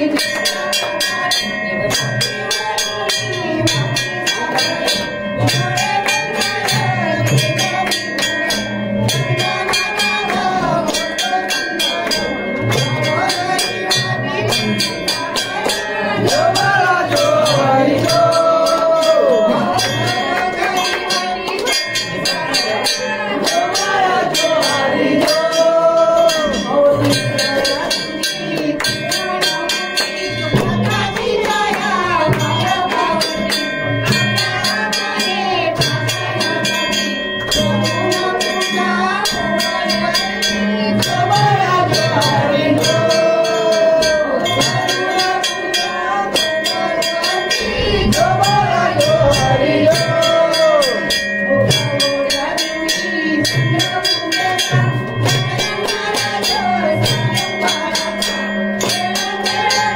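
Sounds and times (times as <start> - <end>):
jingling percussion: 0.0 - 59.9.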